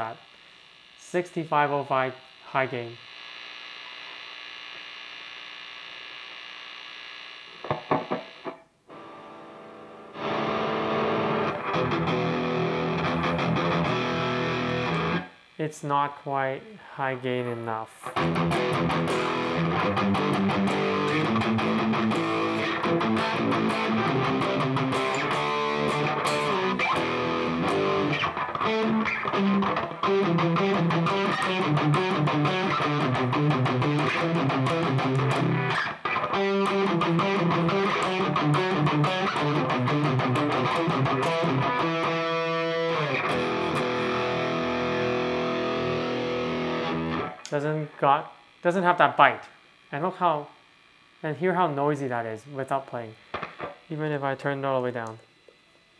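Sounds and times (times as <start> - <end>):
distorted electric guitar: 0.0 - 5.0, 5.6 - 55.7.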